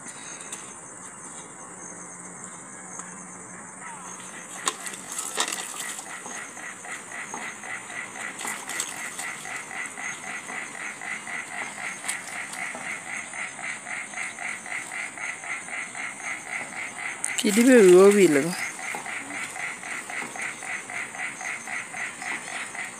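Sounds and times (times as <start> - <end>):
rhythmic pulsing animal call: 3.6 - 22.9.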